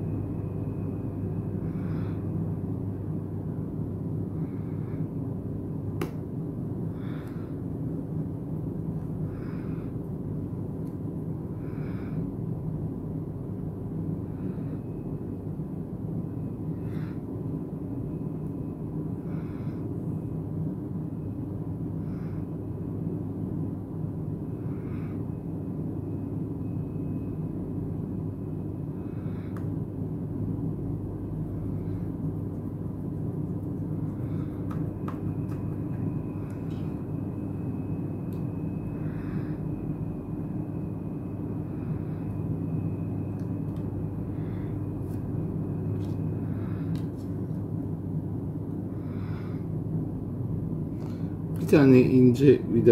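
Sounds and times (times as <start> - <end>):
low background rumble and hum: 0.0 - 52.9.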